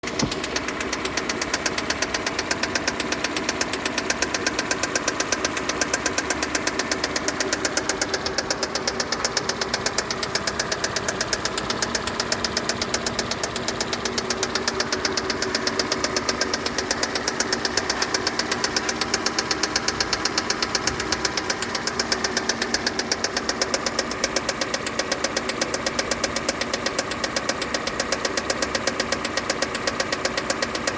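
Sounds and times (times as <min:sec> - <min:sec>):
car engine running: 0:00.0 - 0:30.9
fast engine knock: 0:00.0 - 0:30.9.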